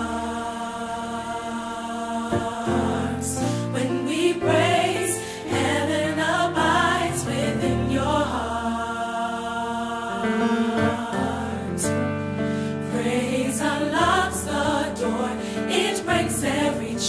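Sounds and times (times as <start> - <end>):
voices singing gospel: 0.0 - 17.0.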